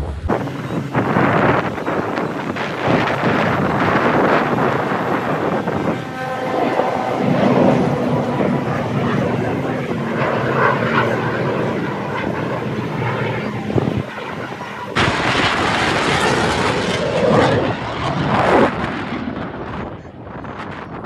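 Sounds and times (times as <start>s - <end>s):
airplane flying past: 0.0s - 21.0s.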